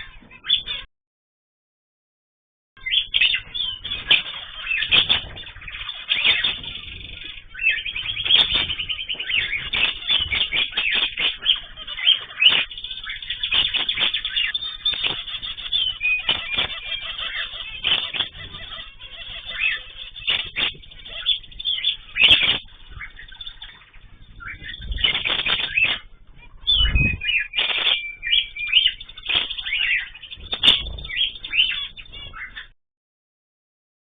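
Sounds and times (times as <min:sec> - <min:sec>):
birds chirping and calling: 0:00.0 - 0:00.9, 0:02.8 - 0:32.8.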